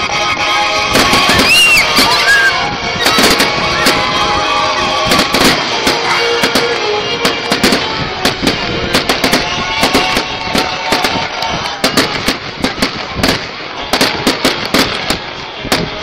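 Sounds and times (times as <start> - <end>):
music playing: 0.0 - 16.0
fireworks bursting: 0.7 - 16.0.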